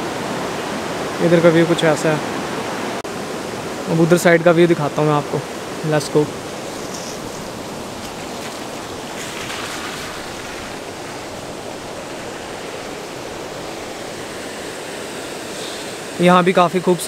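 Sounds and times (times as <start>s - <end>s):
whitewater rushing over boulders: 0.0s - 17.0s.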